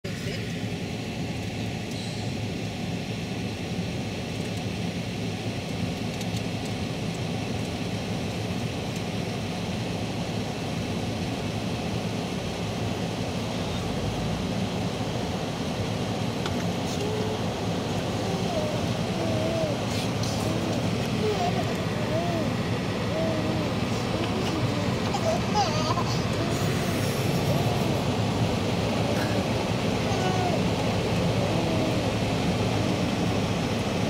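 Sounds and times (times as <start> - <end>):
road traffic: 0.0 - 34.0
helicopter rotor and engine drone: 0.1 - 34.0.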